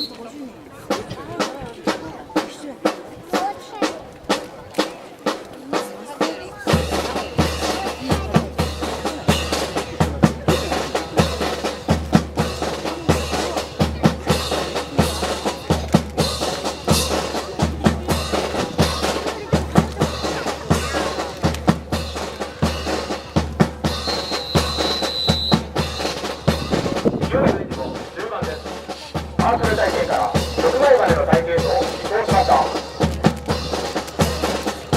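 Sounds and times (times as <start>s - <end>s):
snare drum strokes: 0.9s - 34.9s
brass band playing a march: 1.4s - 34.9s
bass drum beat: 6.2s - 34.9s.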